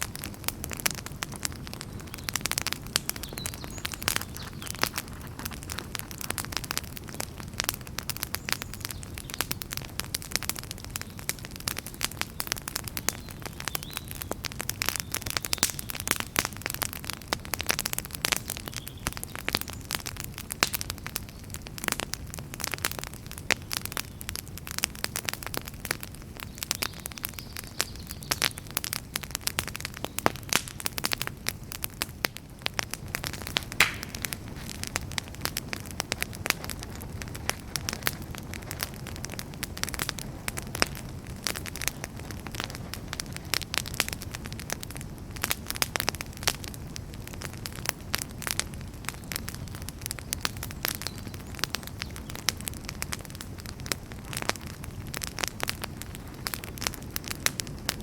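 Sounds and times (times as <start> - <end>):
campfire crackling: 0.0 - 58.0
low rush of flame and wind: 0.0 - 58.0.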